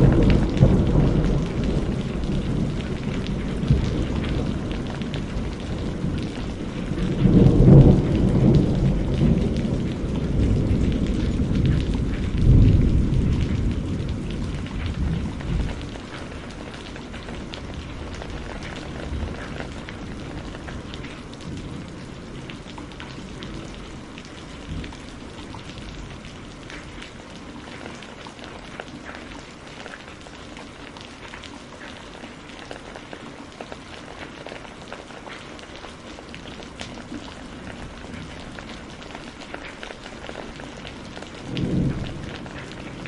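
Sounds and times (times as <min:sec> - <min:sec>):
rain drops ticking on a surface: 0:00.0 - 0:43.0.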